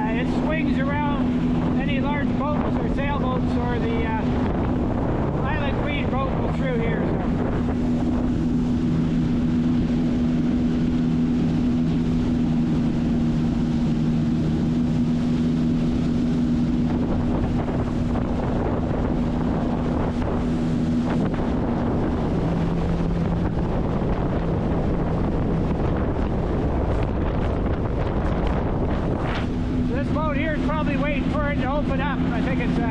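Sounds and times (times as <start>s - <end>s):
water noise: 0.0s - 32.9s
watercraft engine running: 0.0s - 32.9s
wind buffeting microphone: 0.0s - 32.9s.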